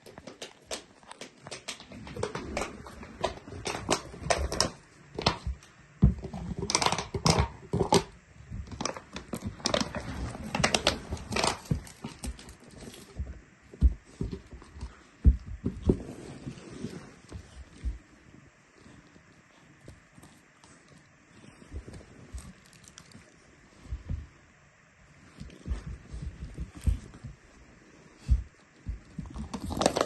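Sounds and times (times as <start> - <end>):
puppy scuffling and thumping: 0.0 - 24.4, 25.2 - 30.0.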